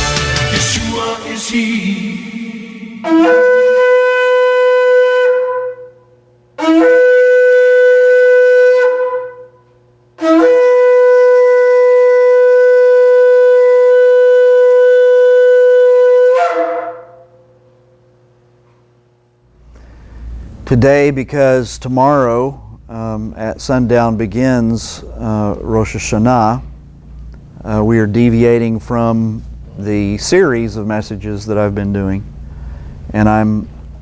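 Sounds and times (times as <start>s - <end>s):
ram's horn blasts: 0.0s - 17.6s, 19.6s - 34.0s.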